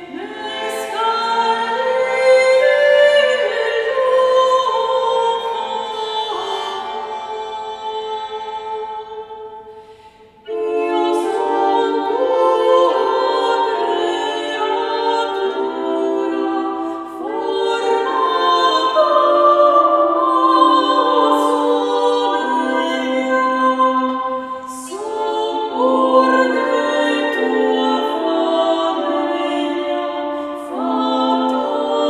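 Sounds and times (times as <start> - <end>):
woman singing: 0.0 - 9.6, 10.5 - 32.0.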